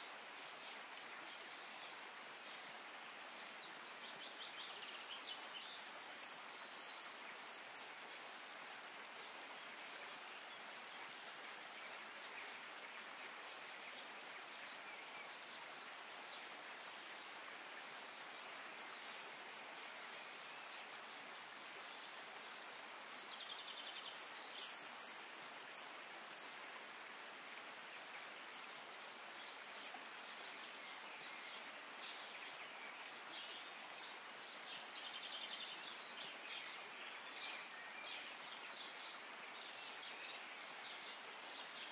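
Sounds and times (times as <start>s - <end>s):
outdoor ambience hiss: 0.0s - 41.9s.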